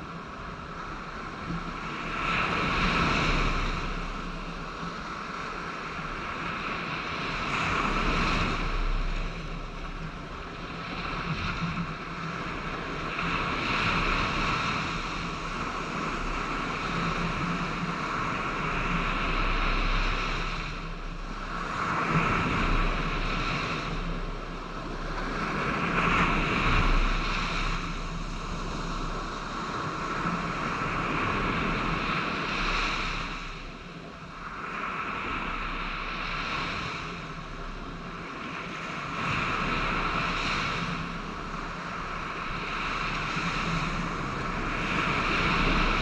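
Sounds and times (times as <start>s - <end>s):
surf washing on sand: 0.0s - 46.0s
wind noise on microphone: 0.0s - 46.0s.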